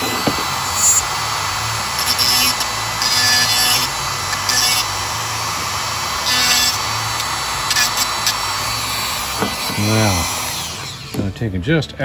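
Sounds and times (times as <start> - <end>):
rotary tool running: 0.0 - 11.3
grinding stone hissing on steel: 0.0 - 11.8.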